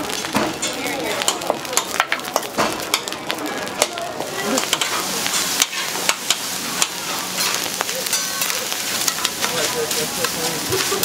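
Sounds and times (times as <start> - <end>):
rice sizzling on a griddle: 0.0 - 11.0
metal spatulas clacking on griddle: 0.1 - 3.2, 4.6 - 11.0.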